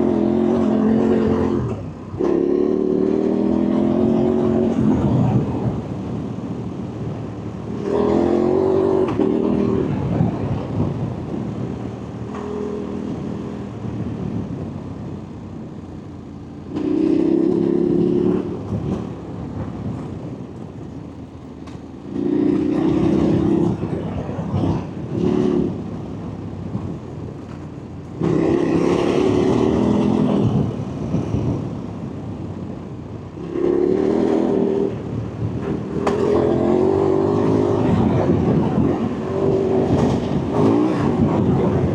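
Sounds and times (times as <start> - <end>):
engine accelerating hard: 0.0 - 15.3, 16.6 - 21.4, 22.0 - 41.9.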